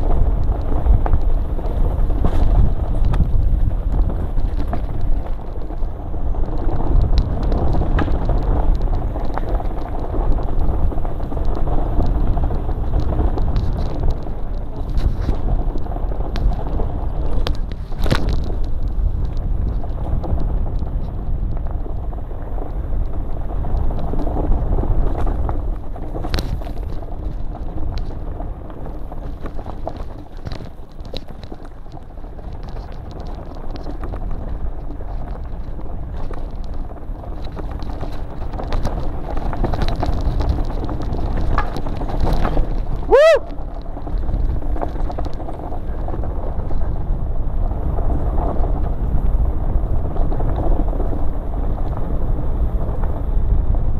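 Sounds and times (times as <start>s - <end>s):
bike rattling and knocking: 0.0s - 53.9s
wind rush on microphone: 0.0s - 53.9s.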